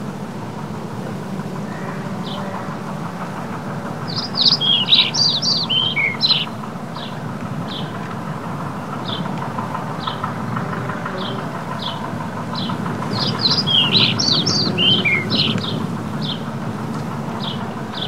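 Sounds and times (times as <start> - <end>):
distant tractor hum: 0.0 - 18.0
songbird chirping: 0.1 - 18.0.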